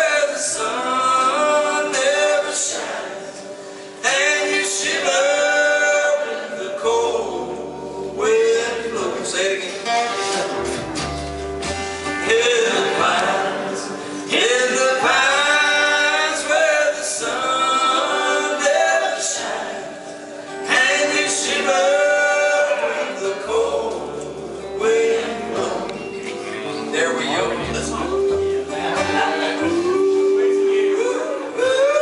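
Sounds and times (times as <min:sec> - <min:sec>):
man singing: 0:00.0 - 0:10.7, 0:12.0 - 0:32.0
country band playing: 0:00.0 - 0:32.0.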